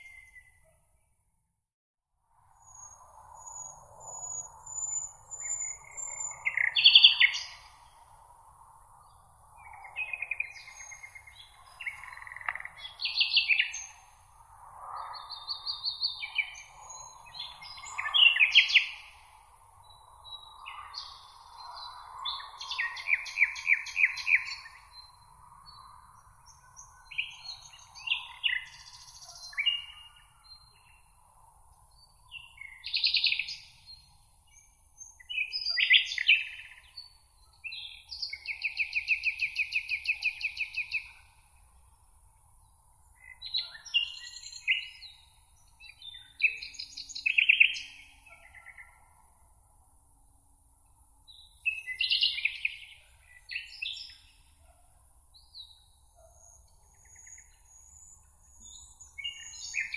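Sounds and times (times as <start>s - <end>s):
songbirds chirping and trilling: 2.6s - 59.9s.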